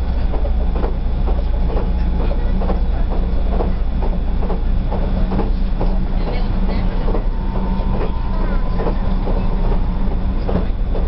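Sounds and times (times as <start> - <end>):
train running rumble: 0.0 - 11.0
regular wheel knocking: 0.1 - 11.0.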